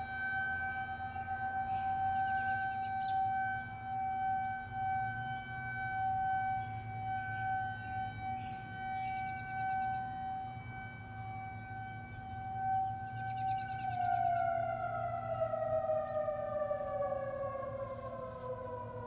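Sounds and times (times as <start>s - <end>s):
outdoor warning siren: 0.0s - 19.0s.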